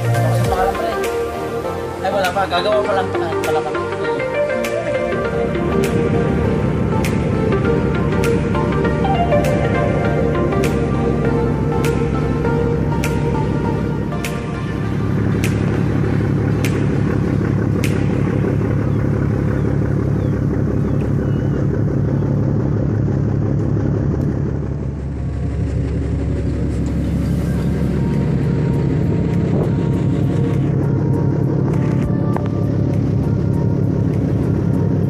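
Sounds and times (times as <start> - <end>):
ferry engines droning: 0.0 - 35.0.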